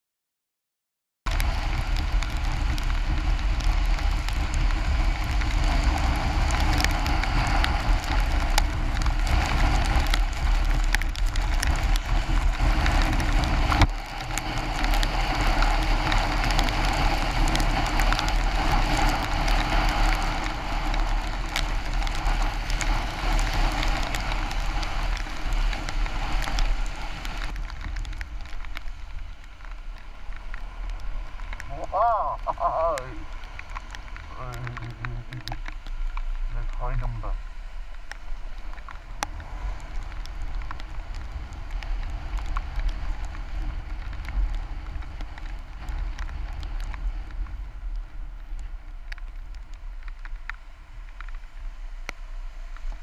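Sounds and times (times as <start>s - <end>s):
rain spattering on microphone: 1.3s - 53.0s
wet road hiss: 1.3s - 53.0s
wind rumble on microphone: 1.3s - 53.0s.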